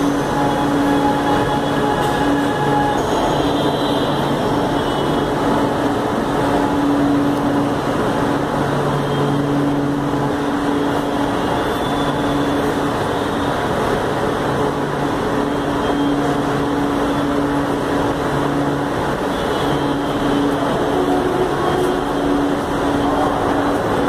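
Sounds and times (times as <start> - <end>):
train equipment hum: 0.0 - 24.0.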